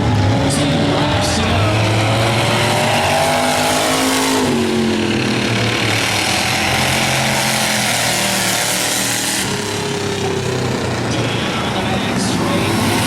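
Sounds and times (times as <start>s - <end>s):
race car engines revving: 0.0s - 13.0s
steady din: 0.0s - 13.0s.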